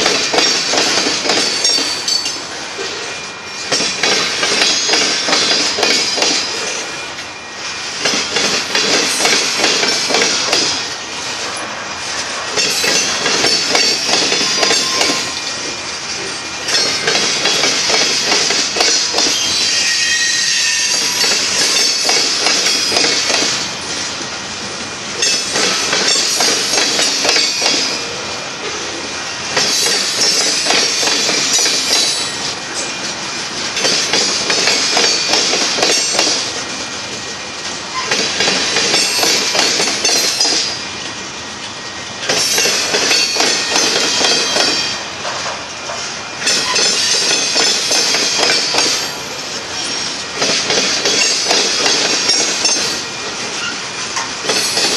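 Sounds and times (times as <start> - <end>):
train wheels clattering on rails: 0.0 - 54.9.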